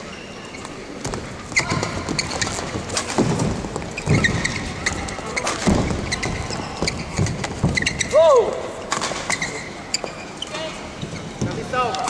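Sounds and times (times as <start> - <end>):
shoes squeaking: 0.0 - 12.0.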